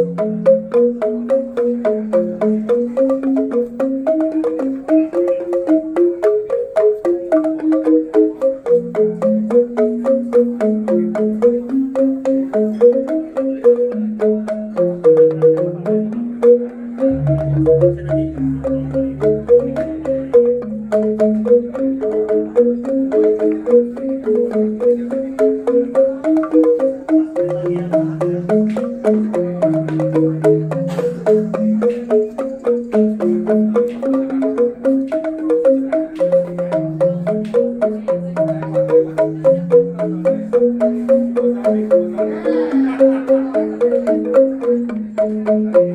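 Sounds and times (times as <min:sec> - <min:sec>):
bamboo xylophones playing: 0:00.0 - 0:45.9.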